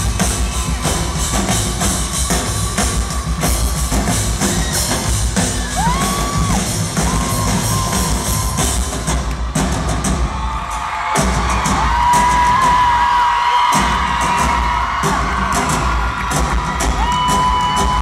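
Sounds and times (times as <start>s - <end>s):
crowd whooping: 0.0s - 18.0s
live drum kit: 0.0s - 18.0s.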